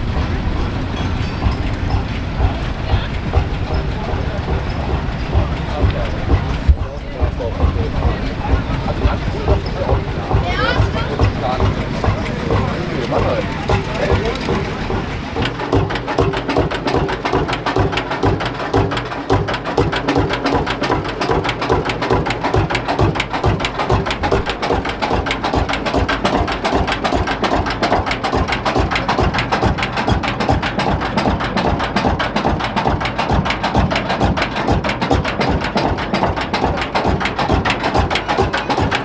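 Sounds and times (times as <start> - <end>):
tractor engine idling knocking: 0.0 - 39.0.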